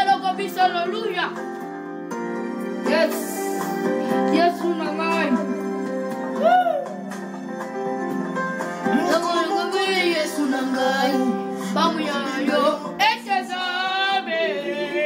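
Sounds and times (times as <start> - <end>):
karaoke backing track chords: 0.0 - 15.0.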